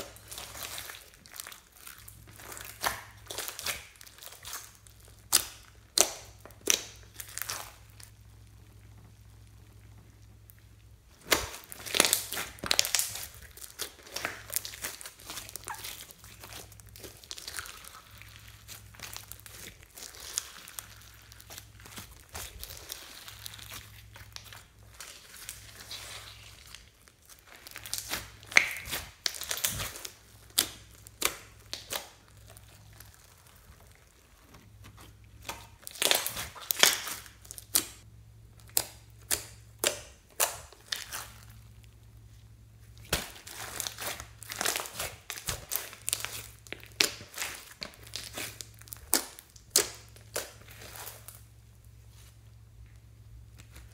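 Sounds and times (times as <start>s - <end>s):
slime crackling and popping: 0.0s - 52.0s.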